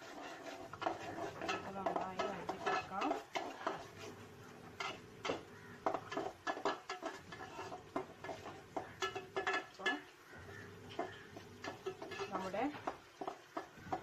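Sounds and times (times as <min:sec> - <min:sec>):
spoon scraping and clinking in pan: 0:00.0 - 0:14.0.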